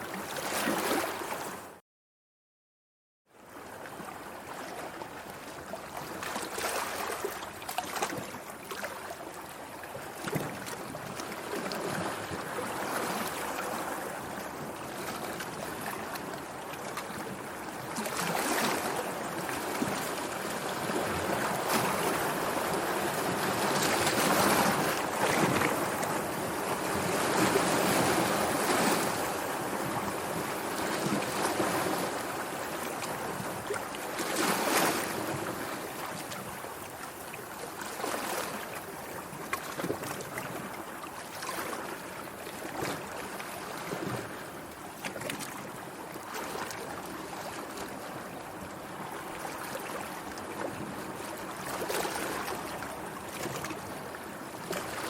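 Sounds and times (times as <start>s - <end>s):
sea water lapping: 0.0s - 1.8s, 4.5s - 55.0s.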